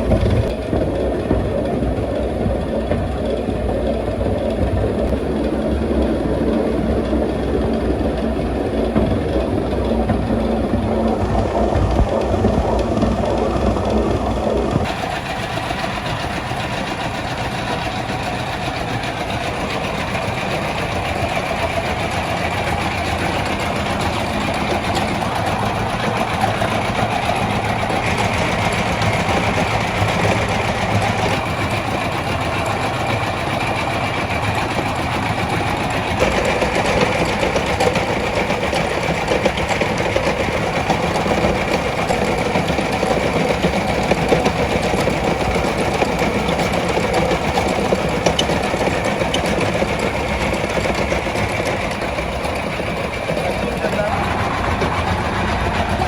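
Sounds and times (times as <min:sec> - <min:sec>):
mill machinery rattling: 0:00.0 - 0:56.0.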